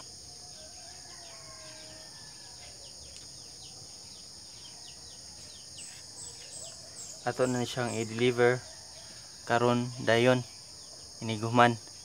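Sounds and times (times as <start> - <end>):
bird chirping: 0.0 - 12.0
insects droning: 0.0 - 12.0.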